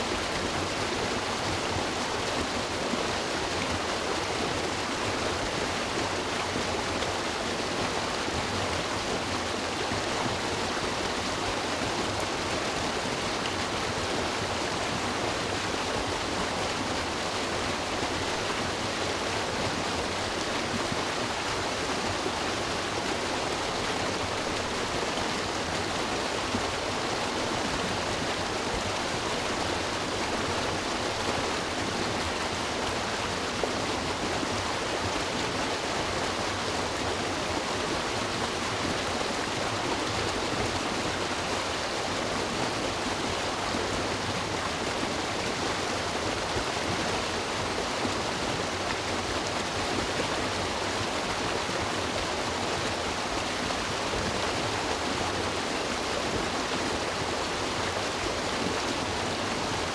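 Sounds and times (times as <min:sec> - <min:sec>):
river water rushing over rocks: 0:00.1 - 0:59.9.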